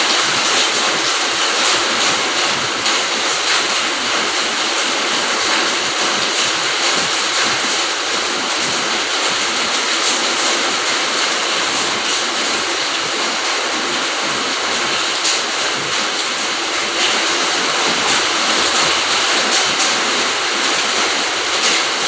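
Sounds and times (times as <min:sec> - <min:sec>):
rain drops: 0:00.0 - 0:22.0
steady rain: 0:00.0 - 0:22.0.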